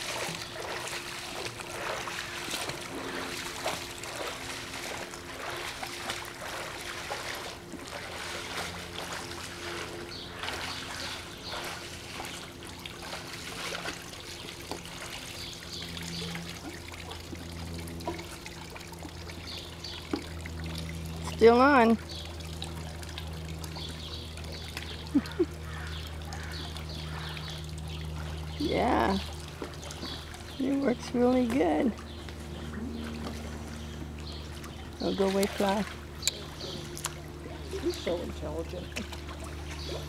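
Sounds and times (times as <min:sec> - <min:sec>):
pool water trickling and lapping: 0:00.0 - 0:40.0
small splashes: 0:00.0 - 0:40.0.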